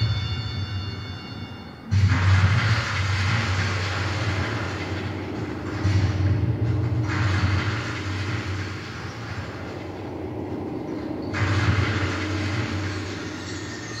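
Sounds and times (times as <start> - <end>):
deep rumbling drone: 1.9 - 14.0.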